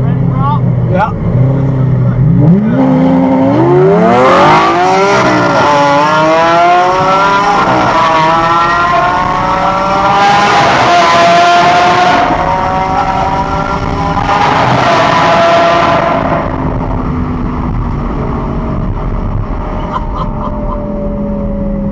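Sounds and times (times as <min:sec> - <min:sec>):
sports car accelerating hard: 0:00.2 - 0:21.9.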